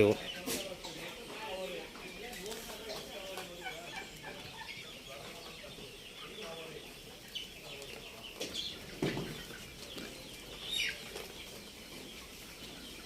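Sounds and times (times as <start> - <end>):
chickens clucking: 0.0 - 13.0
small birds chirping: 0.0 - 13.0.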